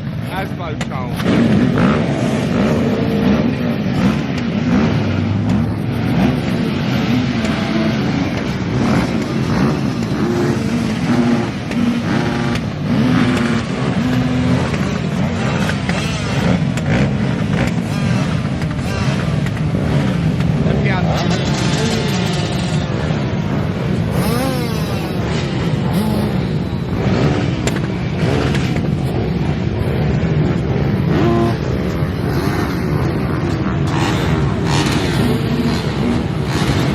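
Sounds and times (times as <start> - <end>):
motorbike engines revving: 0.0 - 36.9.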